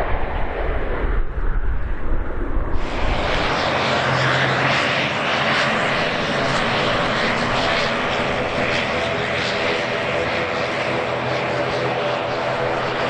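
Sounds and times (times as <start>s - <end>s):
aircraft engine roar: 0.0s - 13.0s
wind rumble on microphone: 0.0s - 13.0s.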